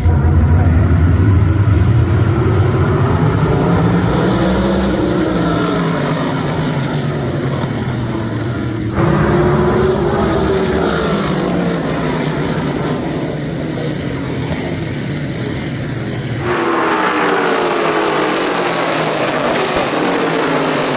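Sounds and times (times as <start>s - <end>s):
race car engines passing: 0.0s - 20.9s.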